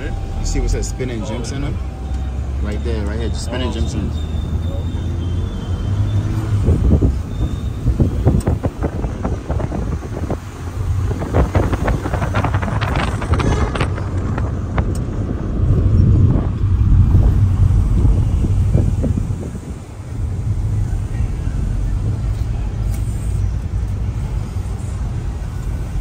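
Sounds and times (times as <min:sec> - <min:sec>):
vehicle ride rumble: 0:00.0 - 0:26.0.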